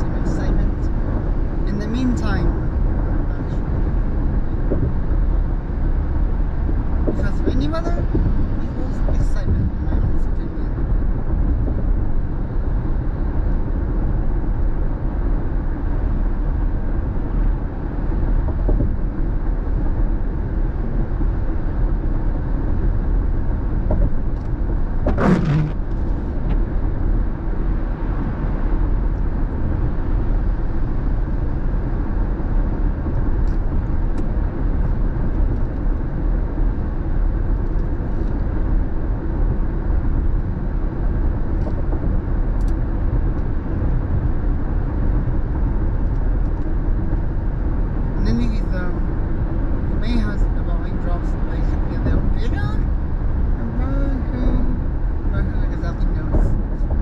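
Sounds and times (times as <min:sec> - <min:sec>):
road and tyre noise with engine hum: 0:00.0 - 0:57.0.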